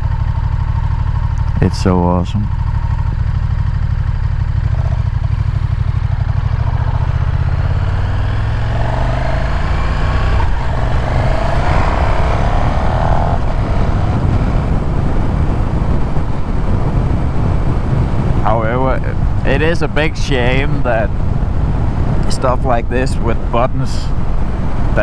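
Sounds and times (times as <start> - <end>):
motorcycle engine revving: 0.0 - 22.4
wind noise: 4.8 - 25.0.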